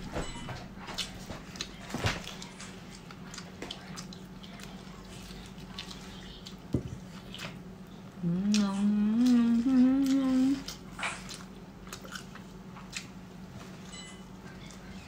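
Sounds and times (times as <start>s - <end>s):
steady low hum: 0.0s - 15.0s
wet chewing and lip-smacking: 0.9s - 15.0s.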